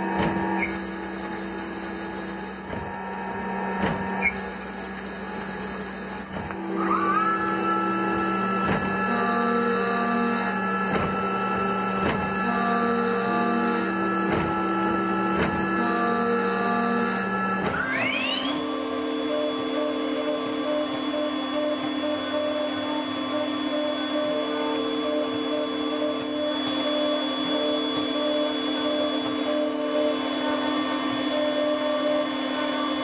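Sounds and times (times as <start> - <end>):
machine hum: 0.0 - 33.0
tool spindle whine: 0.0 - 33.0.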